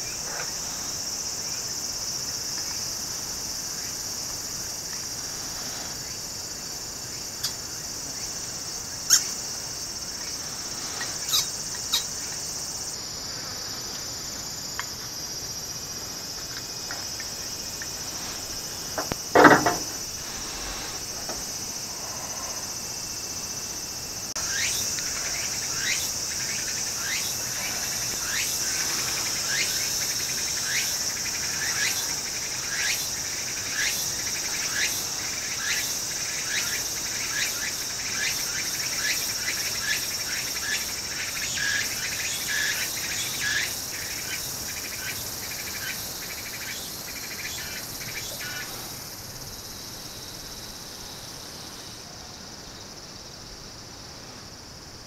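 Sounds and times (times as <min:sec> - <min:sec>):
cicada buzzing: 0:00.0 - 0:55.0.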